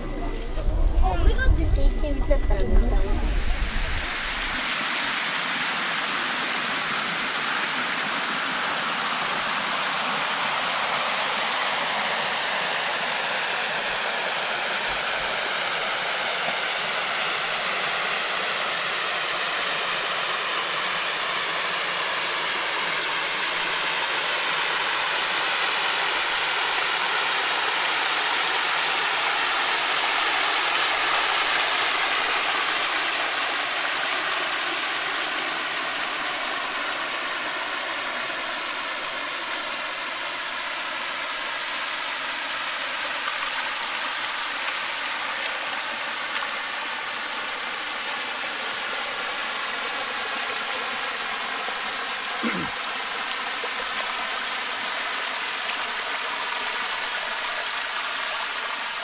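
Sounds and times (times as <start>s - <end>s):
rushing flowing water: 0.0s - 59.0s.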